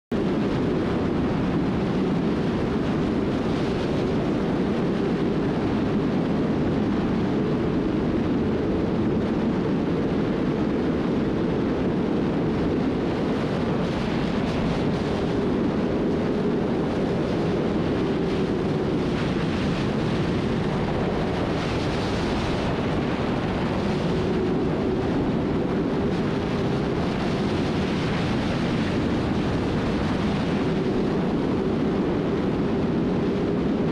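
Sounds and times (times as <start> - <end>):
heavy wind rush: 0.1 - 33.9.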